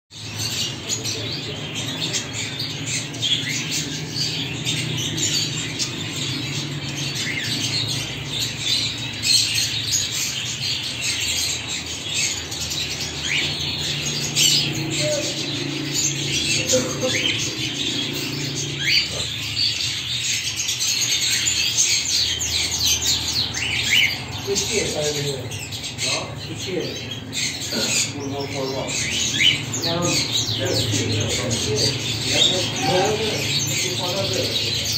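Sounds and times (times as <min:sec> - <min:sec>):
cockatiels chirping: 0:00.2 - 0:34.9.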